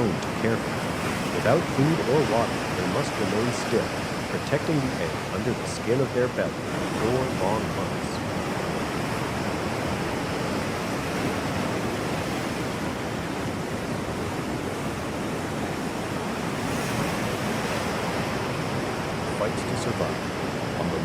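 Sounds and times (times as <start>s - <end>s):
steady outdoor rushing noise: 0.0s - 21.0s.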